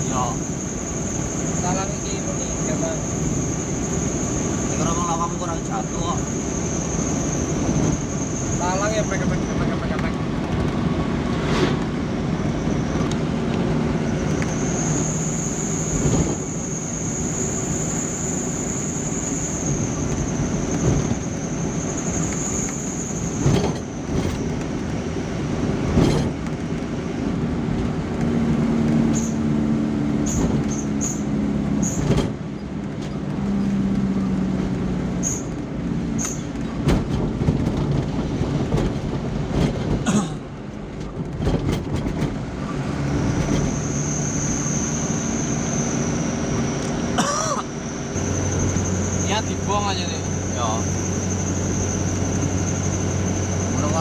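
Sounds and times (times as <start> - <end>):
road noise: 0.0 - 54.0
vehicle engine drone: 0.0 - 54.0.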